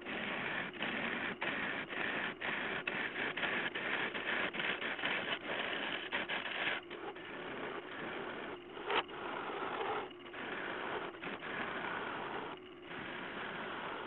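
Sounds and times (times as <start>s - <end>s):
turning gouge cutting wood on lathe: 0.0s - 14.0s.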